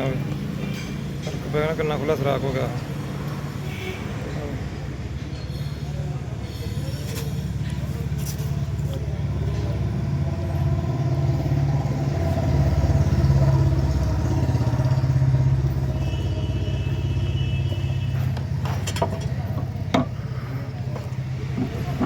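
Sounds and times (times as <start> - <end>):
vehicle engine droning: 4.2 - 22.0.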